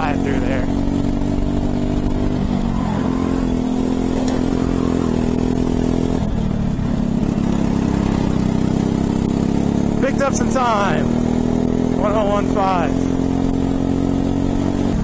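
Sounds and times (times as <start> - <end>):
go-kart engine at full speed: 0.0 - 15.0.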